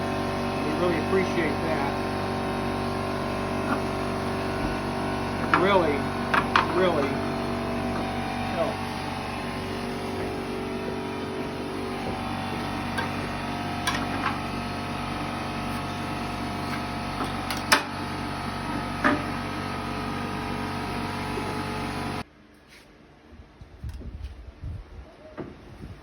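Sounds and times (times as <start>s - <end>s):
machine humming: 0.0s - 22.2s.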